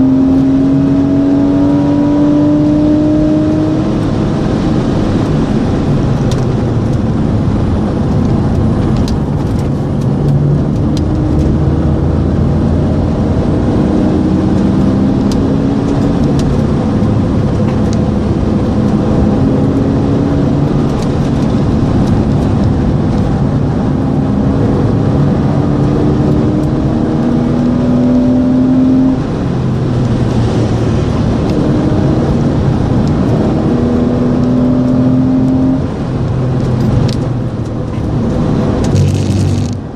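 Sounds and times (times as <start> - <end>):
car engine accelerating: 0.0 - 39.9
wind and road noise: 0.0 - 39.9.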